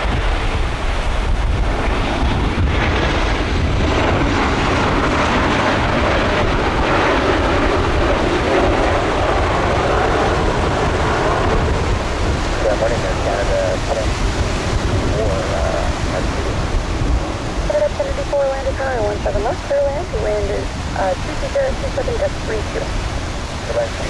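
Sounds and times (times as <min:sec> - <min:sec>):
jet engines roaring: 0:00.0 - 0:24.0
wind buffeting microphone: 0:00.0 - 0:24.0.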